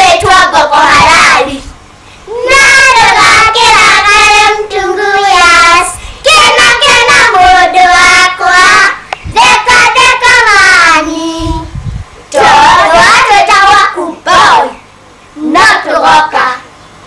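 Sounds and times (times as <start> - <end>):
child singing: 0.0 - 1.7, 2.3 - 14.8, 15.4 - 16.7.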